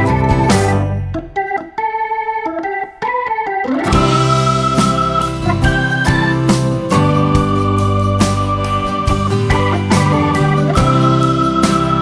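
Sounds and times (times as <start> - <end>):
pop music with keyboard chords: 0.0 - 12.0.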